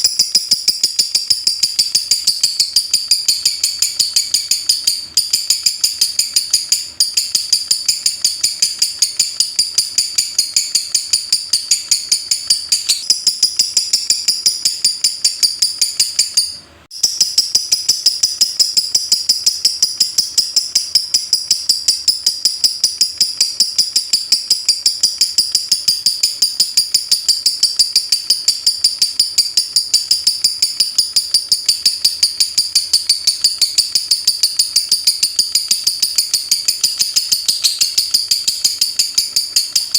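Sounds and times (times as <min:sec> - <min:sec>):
bird rapid high chirps: 0:00.0 - 0:39.9.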